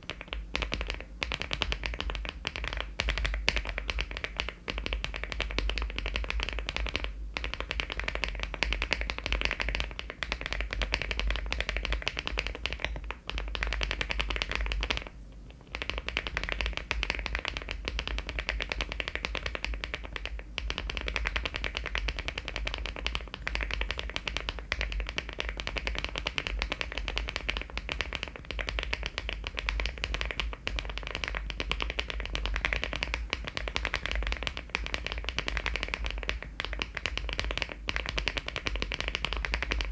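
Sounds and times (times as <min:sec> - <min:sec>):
mechanical keyboard typing: 0:00.1 - 0:15.1, 0:15.7 - 0:39.9.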